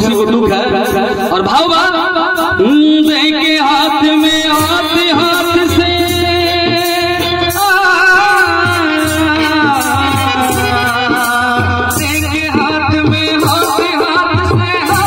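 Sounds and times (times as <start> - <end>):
instrumental accompaniment: 0.0 - 15.0
man singing into a microphone: 0.0 - 15.0.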